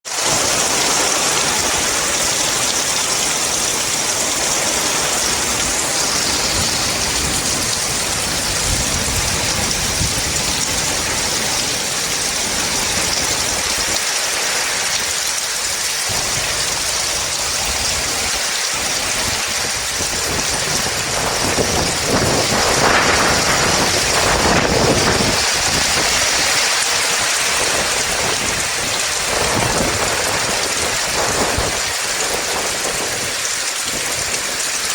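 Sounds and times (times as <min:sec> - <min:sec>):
heavy rain: 0:00.0 - 0:34.9
gusting wind rumbles: 0:00.1 - 0:34.9.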